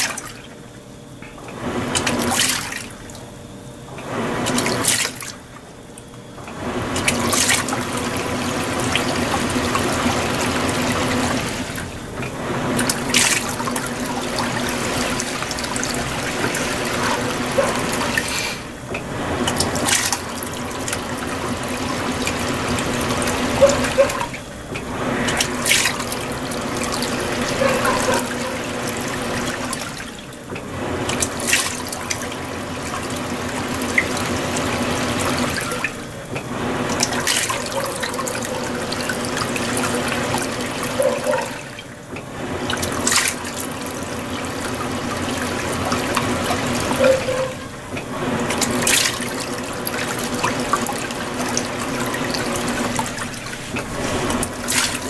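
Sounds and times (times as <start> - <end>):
water swishing in washing machine: 0.0 - 55.0.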